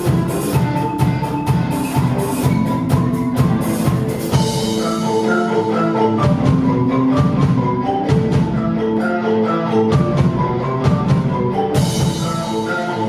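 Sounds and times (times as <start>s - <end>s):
drum strikes: 0.0s - 8.9s, 9.8s - 13.0s
xylophones and metallophones playing: 0.0s - 13.0s.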